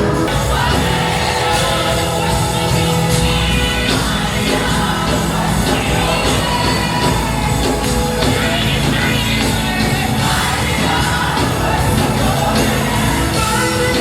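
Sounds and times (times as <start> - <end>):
band playing gospel music: 0.0 - 14.0
voices singing: 0.0 - 14.0.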